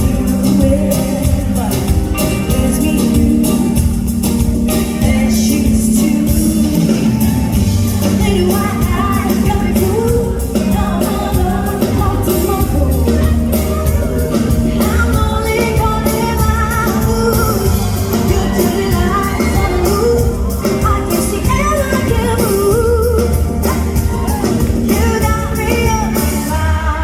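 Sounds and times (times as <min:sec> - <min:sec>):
live pop band playing: 0:00.0 - 0:27.0
woman singing: 0:00.0 - 0:27.0.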